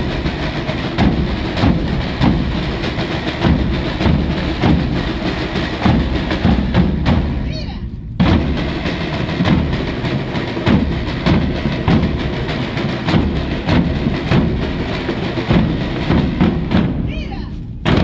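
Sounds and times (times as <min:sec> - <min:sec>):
snare drum rolls: 0:00.0 - 0:07.6, 0:08.2 - 0:18.0
bass drums beating: 0:00.0 - 0:18.0.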